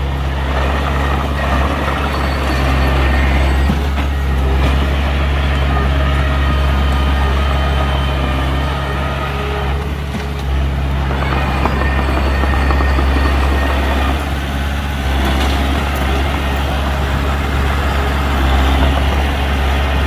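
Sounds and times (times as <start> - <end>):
diesel machinery engine droning: 0.0 - 20.0.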